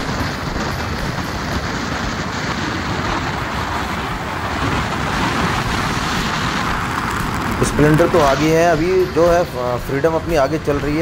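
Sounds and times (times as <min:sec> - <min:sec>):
road noise: 0:00.0 - 0:11.0
wind rush: 0:00.0 - 0:11.0.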